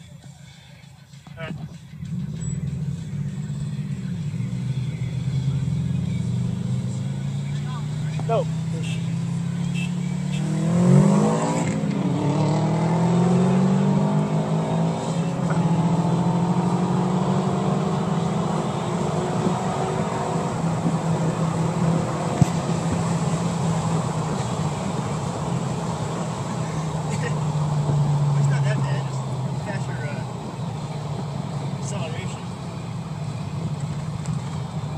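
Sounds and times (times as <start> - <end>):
car engine accelerating: 1.2 - 34.9.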